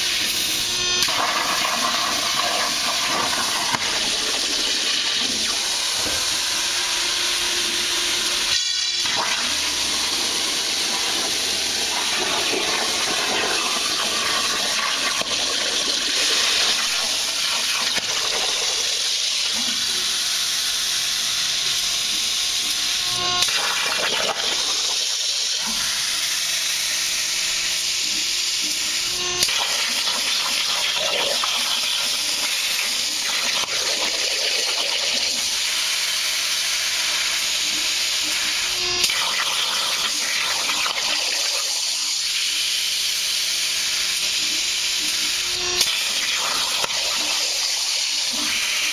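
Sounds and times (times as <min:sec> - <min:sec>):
plasma cutter hissing: 0:00.0 - 0:48.9.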